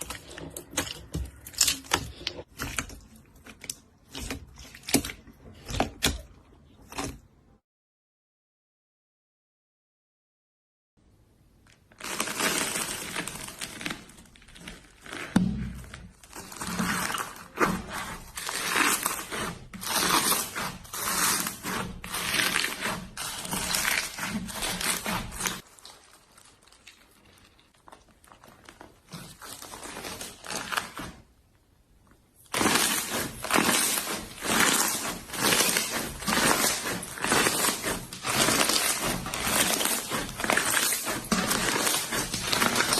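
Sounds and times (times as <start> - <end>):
slime squishing: 0.0 - 7.6, 11.5 - 31.4, 32.1 - 42.9.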